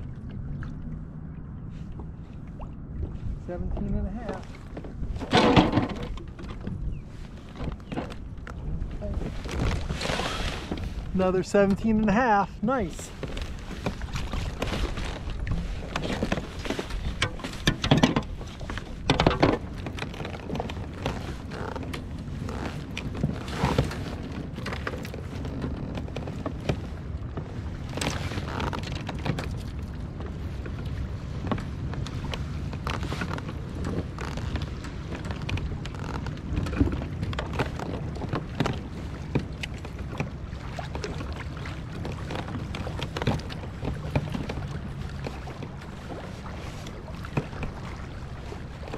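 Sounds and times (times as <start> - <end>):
knocks and clatter on boat: 0.0 - 48.9.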